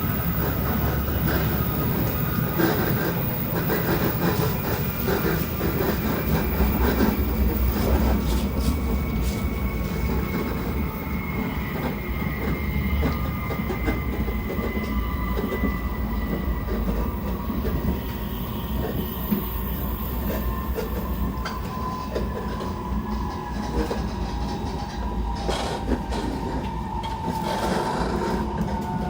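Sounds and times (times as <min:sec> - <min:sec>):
train knocks and rattles: 0:00.0 - 0:29.0
train running at speed rumble: 0:00.0 - 0:29.0.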